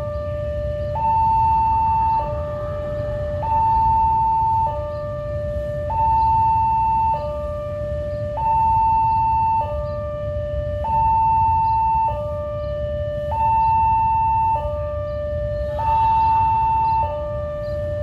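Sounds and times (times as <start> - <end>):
level crossing two-tone alarm: 0.0 - 18.0.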